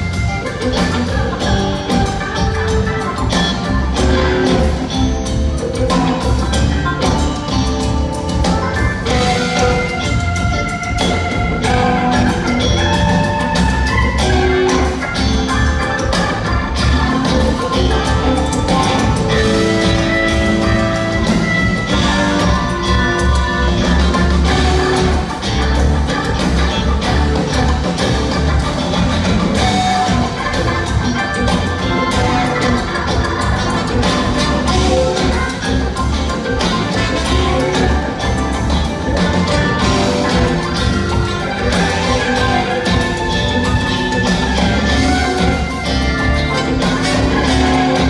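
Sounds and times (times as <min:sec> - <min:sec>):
live rock and roll band: 0:00.0 - 0:48.0.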